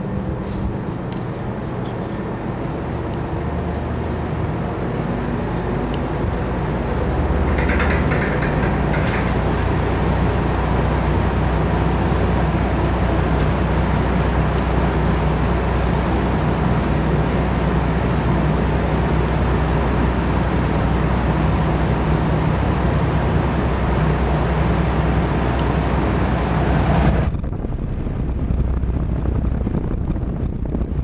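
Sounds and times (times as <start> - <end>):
box fan air rush: 0.0 - 7.8, 8.5 - 31.0
low motor hum: 0.0 - 31.0.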